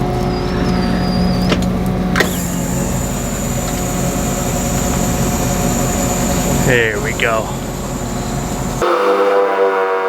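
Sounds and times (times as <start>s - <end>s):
tractor engine running: 0.0s - 9.7s
hydraulic whine: 0.0s - 10.0s.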